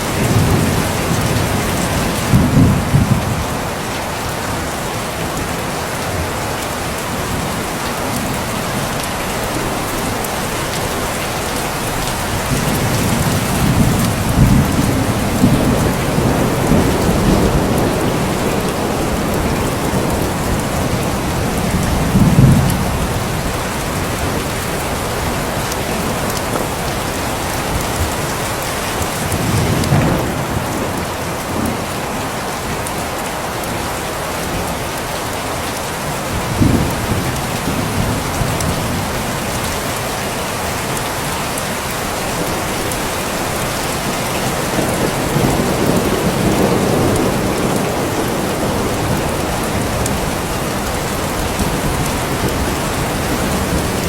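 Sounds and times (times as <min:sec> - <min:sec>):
thunder rumbling: 0:00.0 - 0:04.6, 0:05.3 - 0:33.0, 0:41.8 - 0:54.0
heavy rain hissing: 0:00.0 - 0:54.0.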